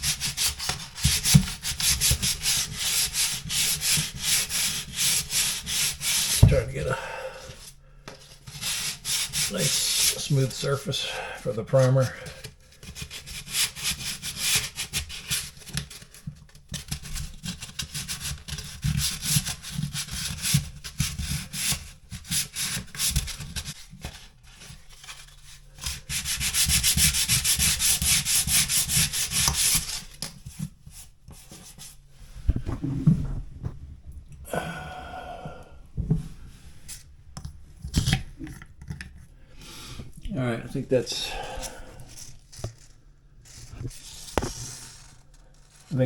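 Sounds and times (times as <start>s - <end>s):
sandpaper scraping drywall: 0.0s - 32.2s, 41.0s - 46.0s.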